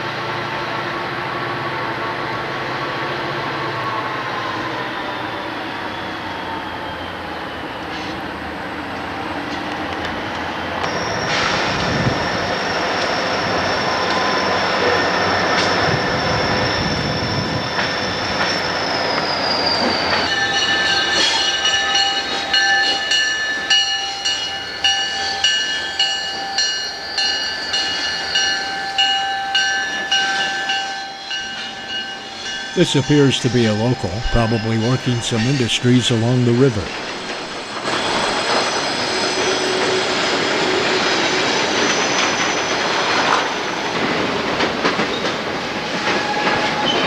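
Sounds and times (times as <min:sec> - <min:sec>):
train wheels squealing: 0:03.1 - 0:34.7, 0:37.0 - 0:47.0
train clickety-clack on rail joints: 0:08.9 - 0:47.0.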